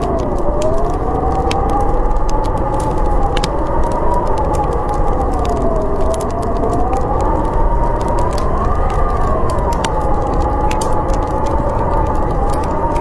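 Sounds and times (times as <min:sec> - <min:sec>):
fire crackling: 0:00.0 - 0:13.0
howling storm wind: 0:00.0 - 0:13.0.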